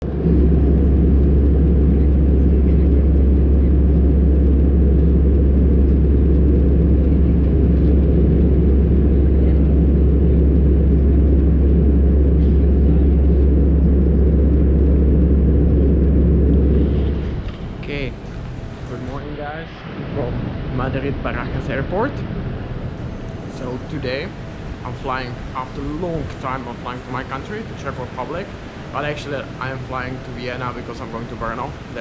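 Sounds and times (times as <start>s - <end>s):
moving vehicle rumble: 0.0s - 30.3s.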